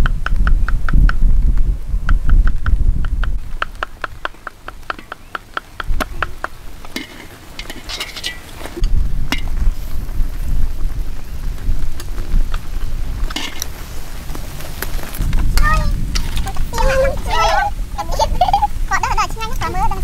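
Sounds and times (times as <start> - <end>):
crackles: 0.0 - 20.0.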